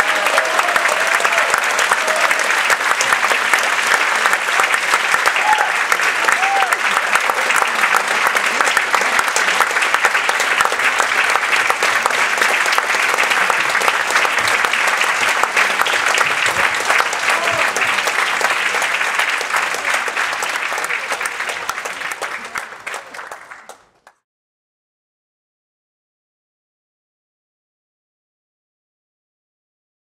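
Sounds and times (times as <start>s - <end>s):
audience applauding: 0.0s - 24.2s.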